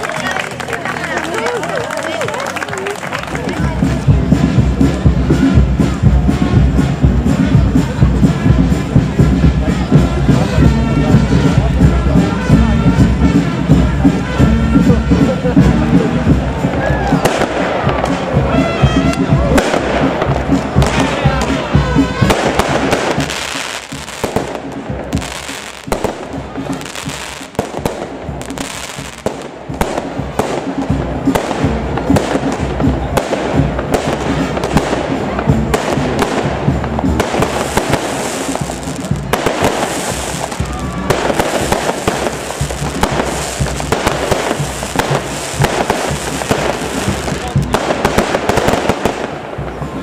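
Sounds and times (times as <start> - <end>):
fireworks crackling: 0.0 - 50.0
fireworks bangs: 3.1 - 50.0.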